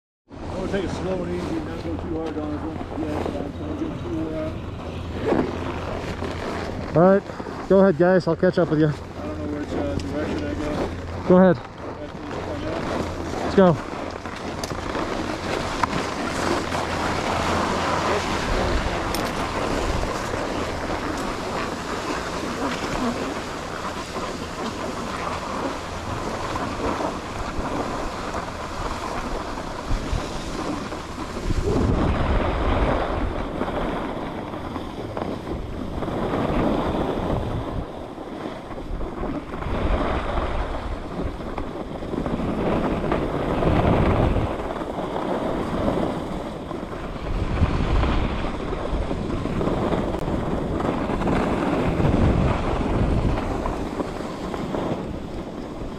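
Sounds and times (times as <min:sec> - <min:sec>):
wind on microphone: 0:00.3 - 0:55.9
skis scraping on snow: 0:00.4 - 0:55.9.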